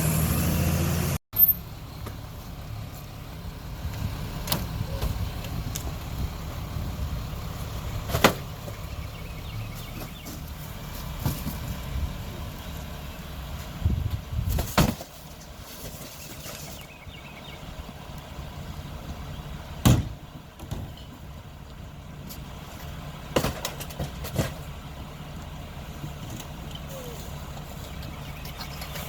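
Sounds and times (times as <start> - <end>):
garbage truck diesel engine: 0.0 - 29.0.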